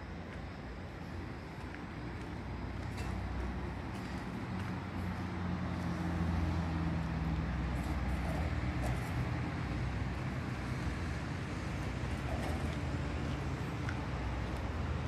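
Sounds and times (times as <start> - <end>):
low engine hum: 0.0 - 15.0
outdoor traffic noise: 0.0 - 15.0.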